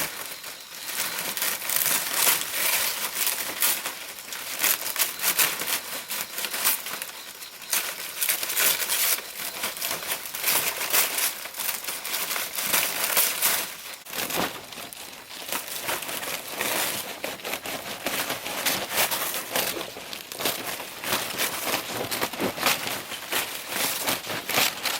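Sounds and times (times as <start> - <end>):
dry leaves rustling: 0.0 - 24.9.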